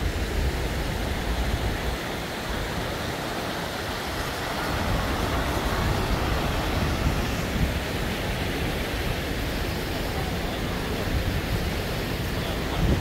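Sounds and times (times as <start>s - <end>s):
fountain jets splashing into pool: 0.0s - 13.0s
wind buffeting microphone: 0.0s - 13.0s.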